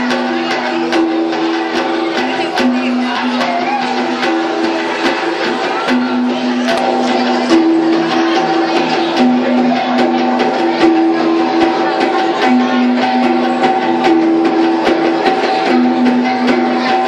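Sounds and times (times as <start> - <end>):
audience chatter: 0.0 - 17.0
plucked-string melody: 0.0 - 17.0.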